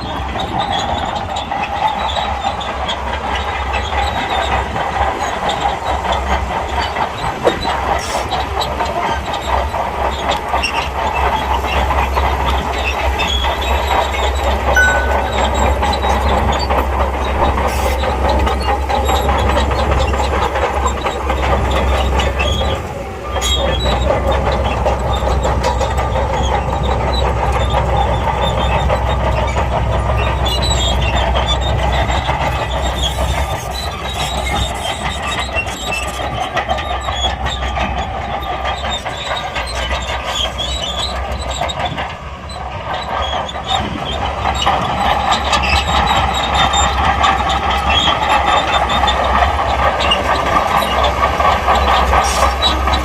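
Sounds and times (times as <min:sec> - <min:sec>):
bulldozer diesel engine running: 0:00.0 - 0:53.0
steel tracks clattering and squealing: 0:00.0 - 0:53.0.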